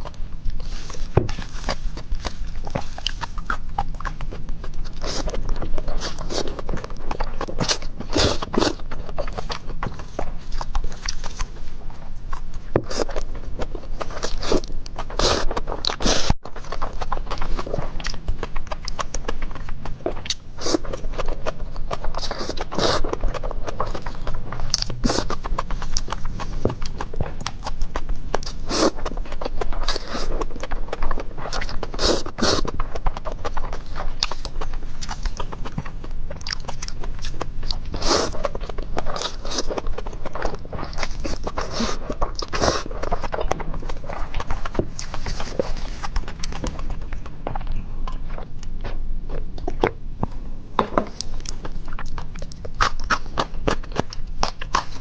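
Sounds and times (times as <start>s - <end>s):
wet chewing and smacking: 0.0s - 55.0s.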